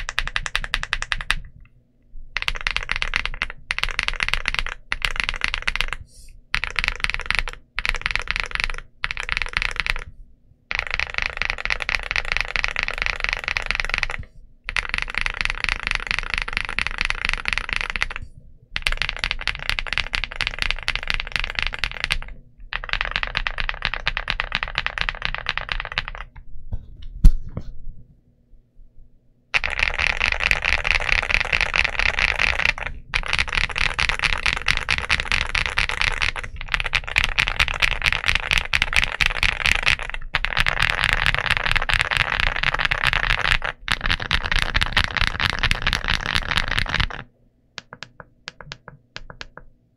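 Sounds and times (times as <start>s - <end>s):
mechanical keyboard typing: 0.0s - 1.6s, 2.4s - 10.1s, 10.7s - 26.4s, 29.6s - 49.7s.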